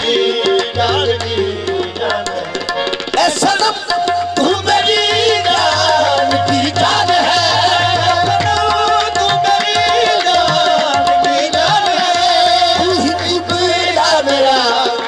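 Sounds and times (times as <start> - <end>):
harmonium melody: 0.0 - 15.0
tabla rhythm: 0.0 - 15.0.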